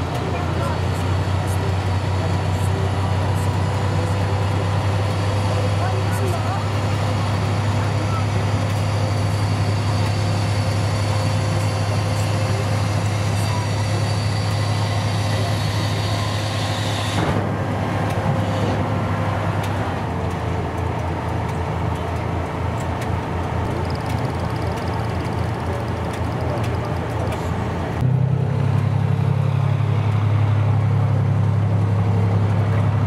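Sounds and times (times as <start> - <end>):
tracked vehicle engine running: 0.0 - 33.0.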